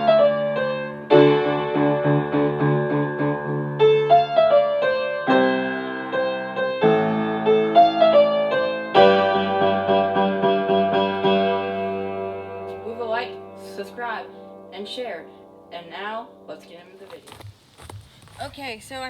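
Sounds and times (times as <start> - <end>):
electric piano melody: 0.0 - 15.6.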